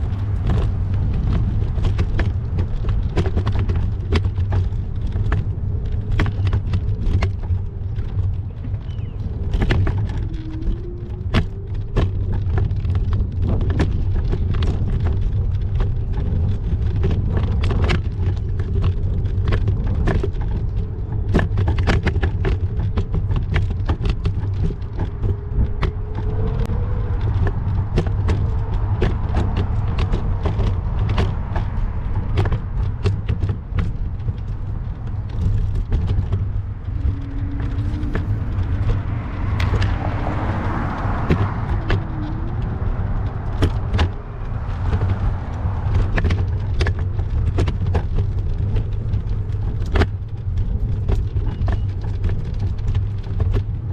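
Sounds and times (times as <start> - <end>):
bicycle clicks and rattles: 0.0 - 53.9
passing traffic hum: 0.0 - 53.9
wind buffeting microphone: 0.0 - 53.9.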